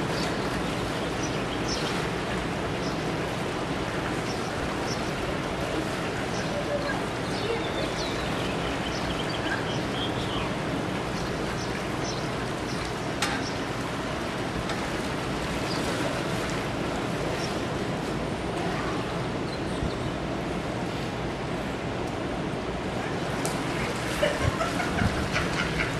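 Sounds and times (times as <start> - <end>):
distant ocean surf: 0.0 - 25.9
wind: 0.0 - 25.9.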